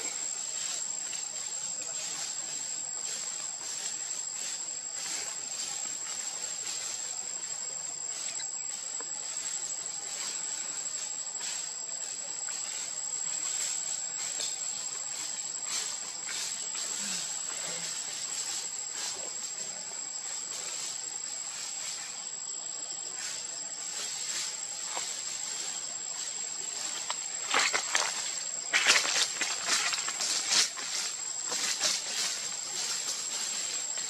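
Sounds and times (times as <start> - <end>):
rustling noise: 0.0 - 22.4, 23.0 - 34.0
faint forest ambience: 0.0 - 34.0
high-pitched insect drone: 0.0 - 34.0.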